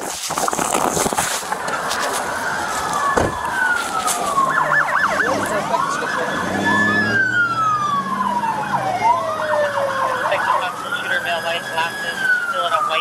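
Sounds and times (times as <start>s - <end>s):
police siren wailing and yelping: 1.7s - 13.0s.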